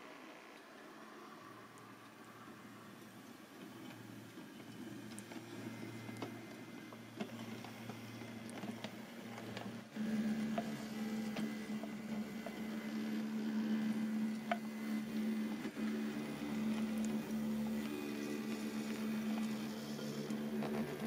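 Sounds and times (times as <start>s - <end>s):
model train motor humming: 0.0s - 21.0s.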